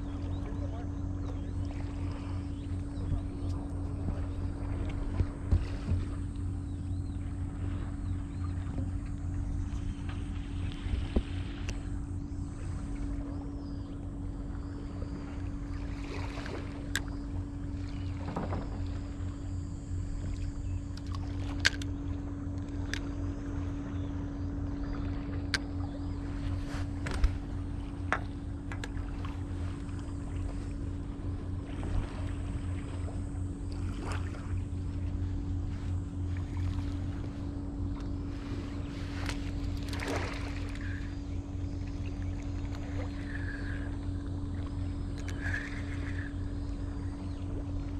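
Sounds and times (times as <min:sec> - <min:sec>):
steady low hum: 0:00.0 - 0:47.9
wind rumble on microphone: 0:00.0 - 0:47.9.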